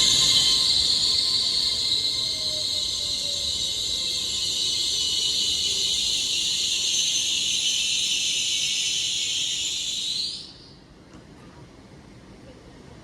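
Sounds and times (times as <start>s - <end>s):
train air hiss: 0.0s - 11.0s.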